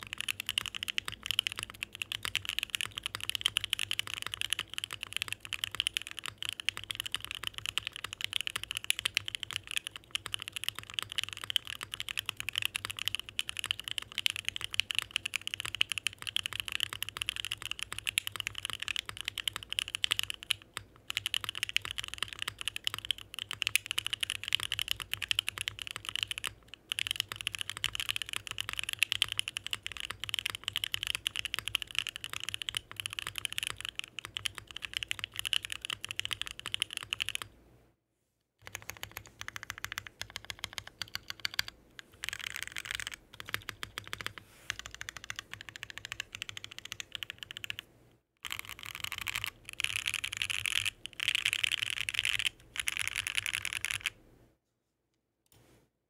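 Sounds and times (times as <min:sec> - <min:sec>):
mechanical keyboard typing: 0:00.0 - 0:37.5, 0:38.6 - 0:54.2.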